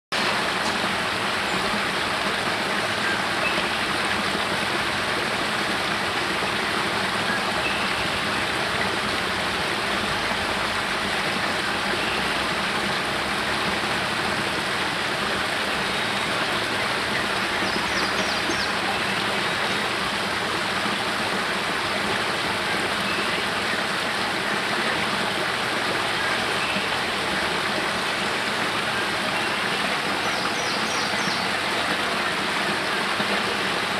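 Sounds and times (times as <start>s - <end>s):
water splashing down cascade: 0.1s - 33.9s.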